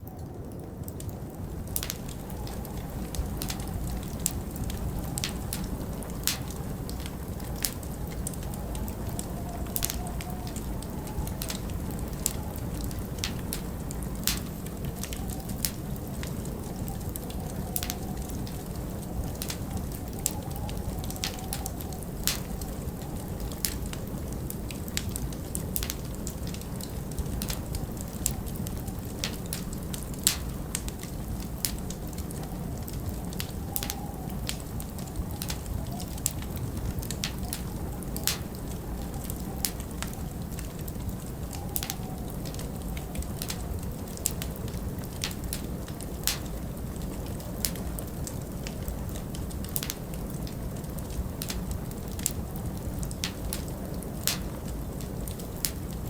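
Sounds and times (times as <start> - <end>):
low rushing wind: 0.0 - 56.0
wood fire crackling: 0.0 - 56.0.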